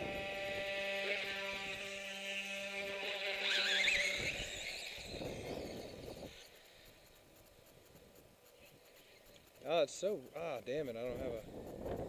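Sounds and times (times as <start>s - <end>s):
toy motorbike motor whining: 0.0s - 12.0s.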